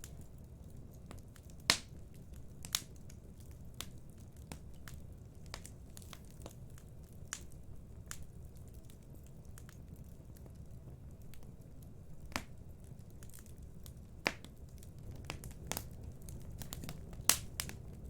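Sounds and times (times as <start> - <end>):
low rumble of burning: 0.0 - 18.0
wood fire crackling and popping: 0.0 - 18.0.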